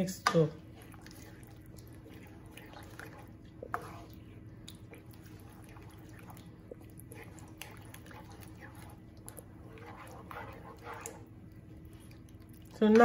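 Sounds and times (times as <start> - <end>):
wooden spoon stirring wet mixture: 0.0 - 13.0.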